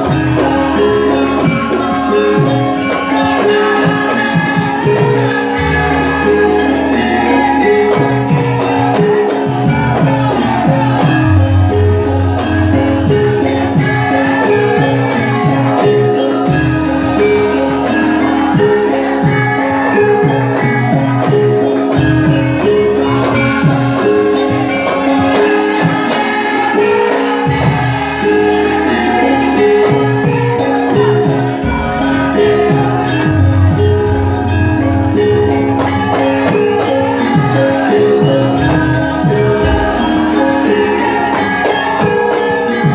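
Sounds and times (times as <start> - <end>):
music with bass and percussion: 0.0 - 42.9.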